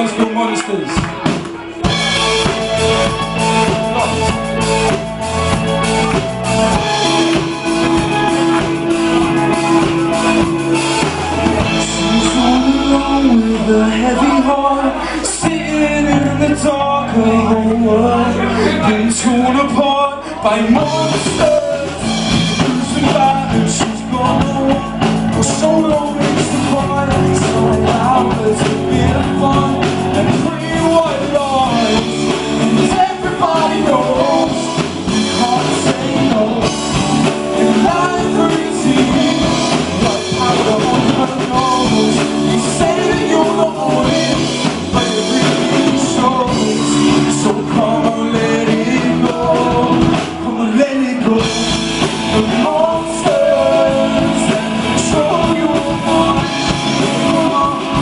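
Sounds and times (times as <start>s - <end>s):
drum kit: 0.0s - 58.0s
guitars: 0.0s - 58.0s
person singing: 0.0s - 58.0s.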